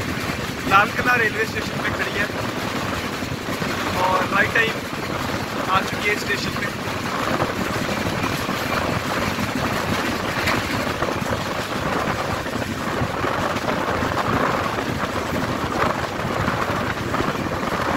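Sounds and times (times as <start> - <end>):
train wheels on rails: 0.0 - 17.9
wind rushing: 0.0 - 17.9.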